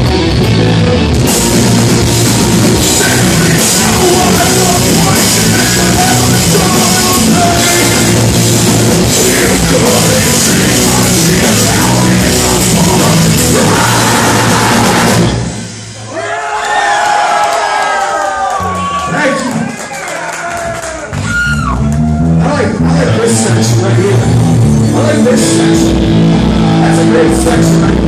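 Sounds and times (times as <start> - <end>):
metal band playing live: 0.0 - 16.2, 21.2 - 28.0
crowd shouting and cheering: 0.0 - 28.0.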